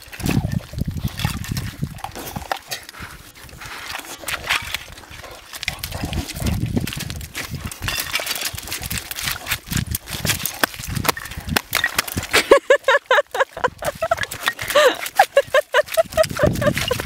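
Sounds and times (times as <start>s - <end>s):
ice cracking and crunching: 0.0s - 17.0s.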